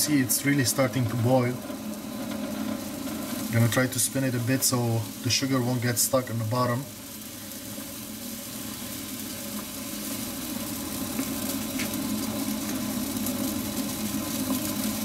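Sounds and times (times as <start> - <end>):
liquid boiling in saucepan: 0.0 - 15.0.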